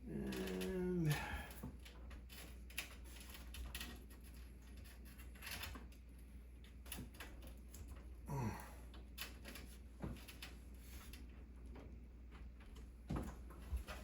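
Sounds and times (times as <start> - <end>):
cables clicking and rustling: 0.0 - 14.0.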